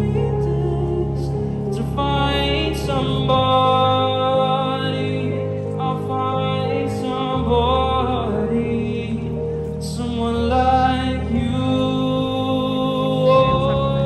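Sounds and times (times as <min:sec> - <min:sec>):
person singing into a microphone: 0:00.0 - 0:14.0
steady backing music: 0:00.0 - 0:14.0.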